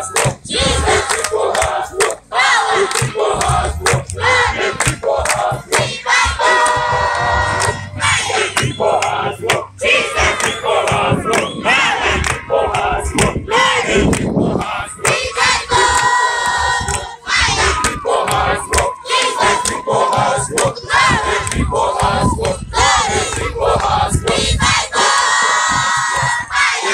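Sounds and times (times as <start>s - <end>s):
crowd shouting and singing: 0.0s - 26.9s.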